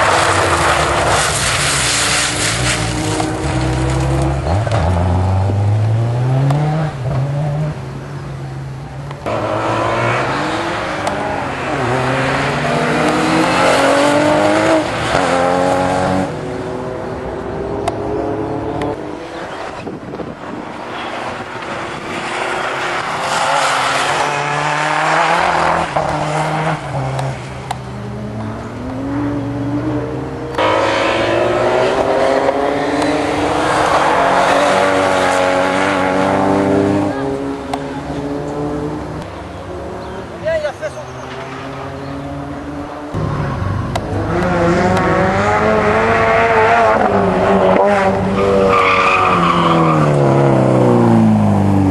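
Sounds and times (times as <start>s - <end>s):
rally car engine accelerating: 9.2s - 40.3s, 41.1s - 51.9s.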